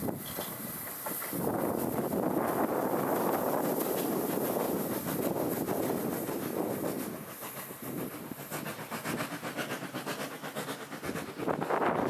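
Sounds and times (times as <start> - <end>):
steam locomotive rushing: 0.0 - 12.0
wind buffeting microphone: 0.0 - 12.0.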